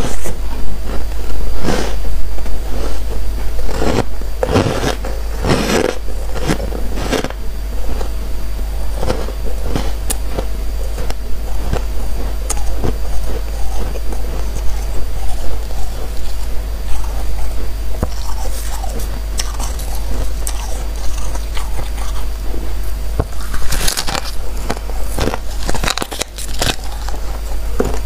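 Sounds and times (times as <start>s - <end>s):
crunching and chewing frost: 0.0s - 28.0s.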